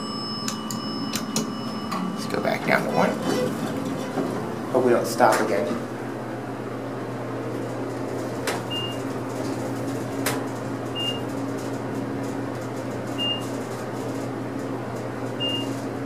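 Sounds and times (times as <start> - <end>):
elevator cab hum: 0.0 - 16.0.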